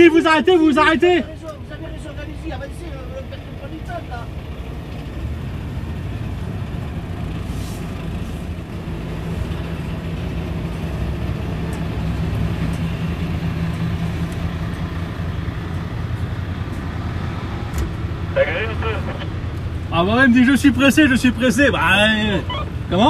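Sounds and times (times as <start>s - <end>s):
truck diesel engine drone: 0.0s - 23.0s.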